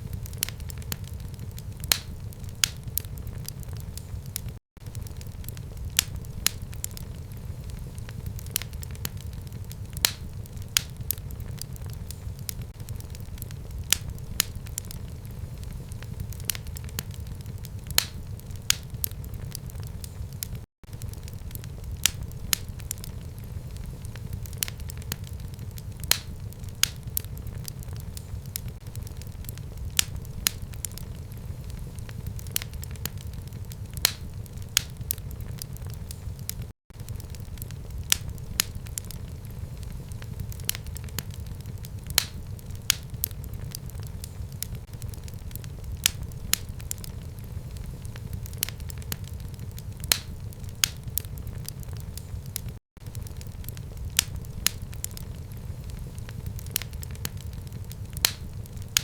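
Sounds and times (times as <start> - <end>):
fire crackles and pops: 0.0 - 59.0
fireplace flames rumbling: 0.0 - 59.0.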